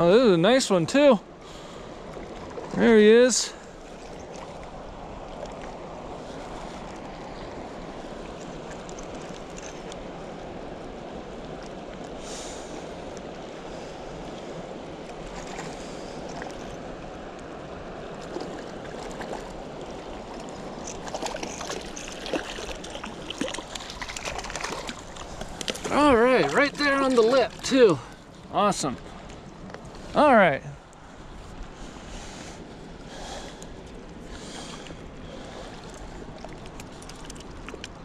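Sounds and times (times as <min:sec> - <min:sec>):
lake water: 0:00.0 - 0:38.0
wind: 0:00.0 - 0:38.0.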